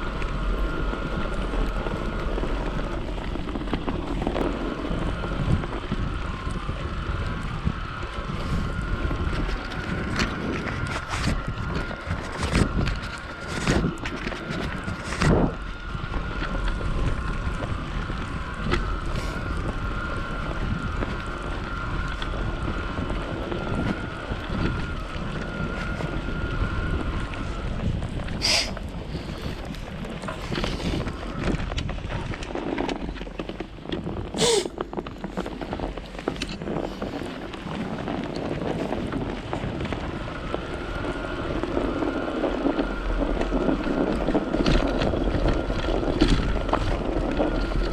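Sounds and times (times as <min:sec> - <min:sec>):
electric motor whine: 0:00.0 - 0:47.9
wind buffeting microphone: 0:00.0 - 0:47.9.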